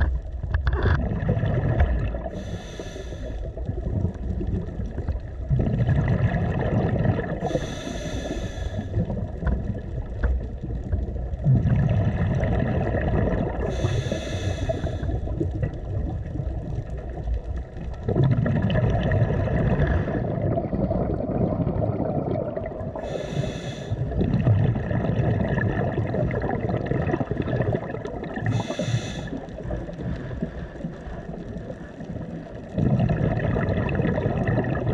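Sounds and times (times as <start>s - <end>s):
exhaled bubbles underwater: 0.0s - 34.9s
low underwater rumble: 0.0s - 34.9s.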